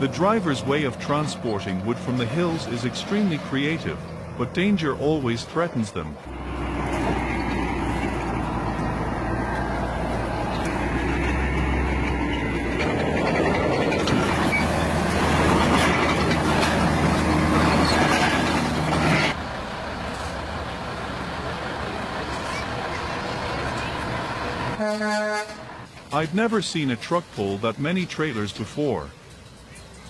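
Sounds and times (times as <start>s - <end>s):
heavy truck engine running: 0.0s - 30.0s.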